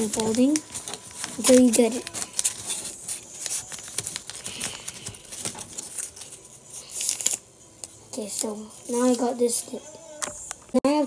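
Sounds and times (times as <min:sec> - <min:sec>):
paper crinkling and rustling: 0:00.0 - 0:09.6.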